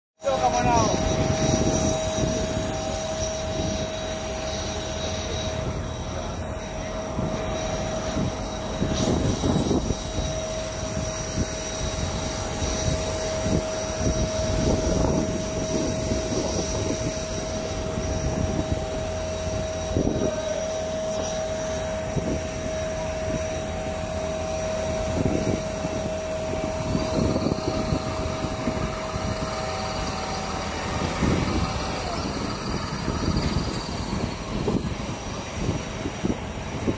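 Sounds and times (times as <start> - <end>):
low uneven rumble: 0.2 - 36.9
steady high whine: 0.2 - 36.9.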